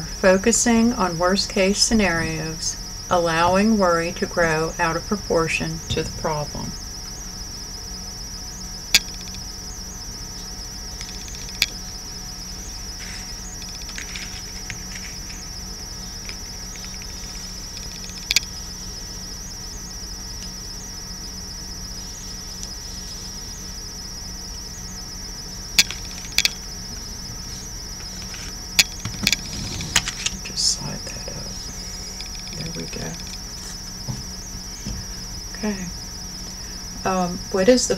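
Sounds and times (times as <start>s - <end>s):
crickets chirping: 0.0s - 37.9s
low steady hum: 0.0s - 37.9s.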